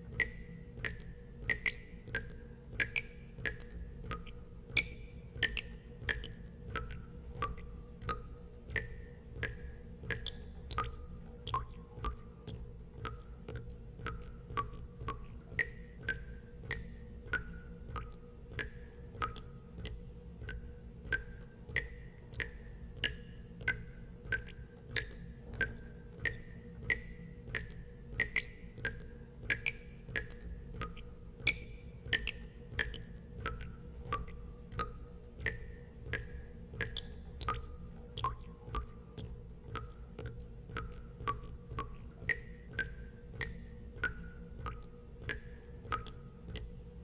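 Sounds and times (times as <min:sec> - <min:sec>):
water drops plinking into water: 0:00.0 - 0:47.0.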